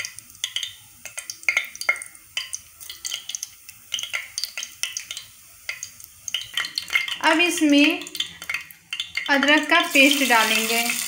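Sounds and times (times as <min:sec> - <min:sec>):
seeds crackling and popping in oil: 0:00.0 - 0:11.0.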